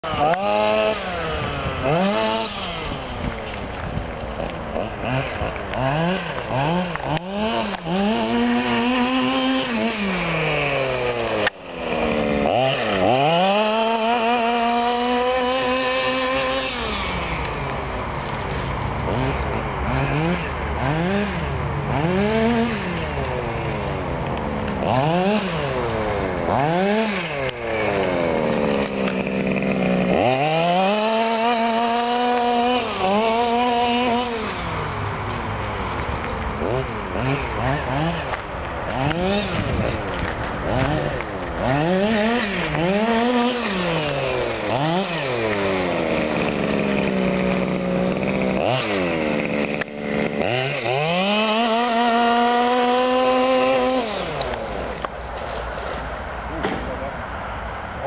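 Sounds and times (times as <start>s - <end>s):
small nitro engine revving: 0.0s - 56.0s.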